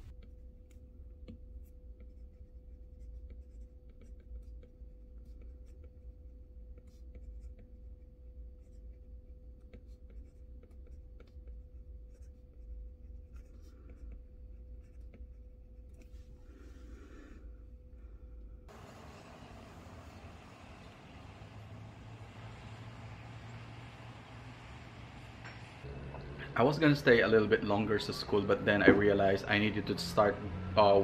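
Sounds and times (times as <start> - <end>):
low room hum: 0.0 - 31.0.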